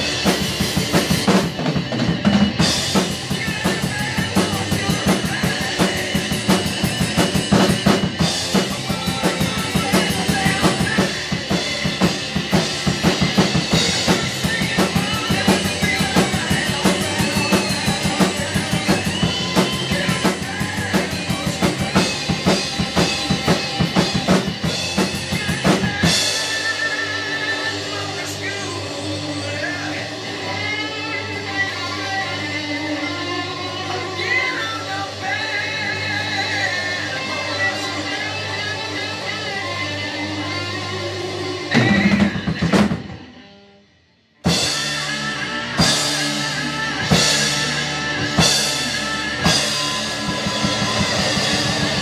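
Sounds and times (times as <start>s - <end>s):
rock drum kit playing: 0.0s - 43.8s, 44.4s - 52.0s
recorded rock song: 0.0s - 52.0s
sustained electric guitar: 0.0s - 52.0s.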